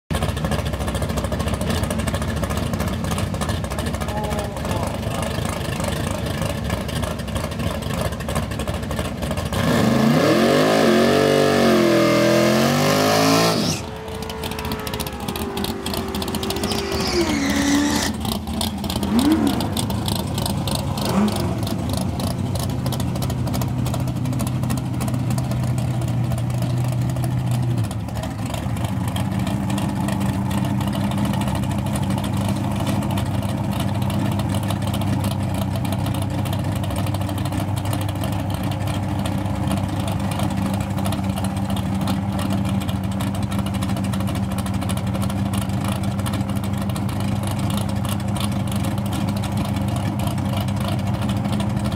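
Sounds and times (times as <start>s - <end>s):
truck engine revving and idling: 0.1s - 51.9s.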